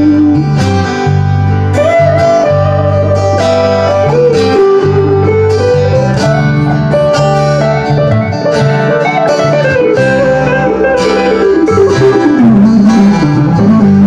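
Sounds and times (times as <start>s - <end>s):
guitar playing low notes: 0.0s - 14.0s
sliding melody line: 1.7s - 14.0s.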